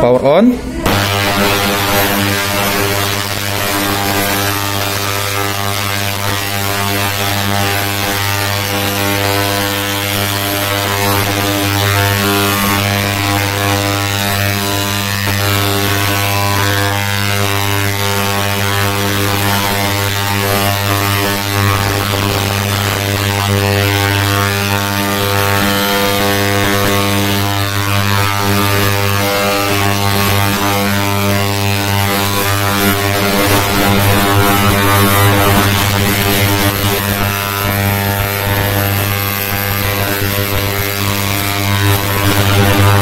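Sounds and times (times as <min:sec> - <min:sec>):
ultrasonic cleaner buzzing: 0:00.8 - 0:43.0.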